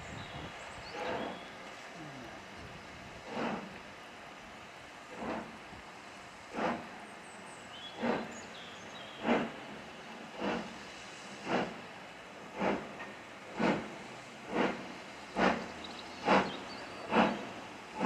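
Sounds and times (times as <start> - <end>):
steam hissing: 0.0 - 18.0
steam locomotive chuffing: 0.1 - 2.3, 3.0 - 18.0.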